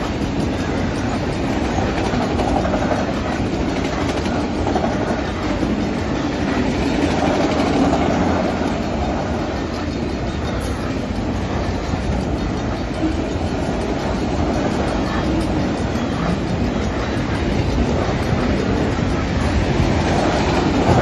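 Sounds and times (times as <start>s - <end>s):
freight train wheels rumbling: 0.0s - 21.0s
wheels clickety-clack on rail joints: 0.0s - 21.0s.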